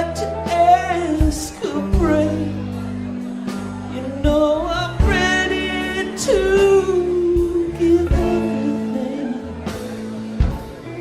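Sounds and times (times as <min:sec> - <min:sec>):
bass: 0:00.0 - 0:11.0
drums: 0:00.0 - 0:11.0
long held lead notes: 0:00.0 - 0:11.0.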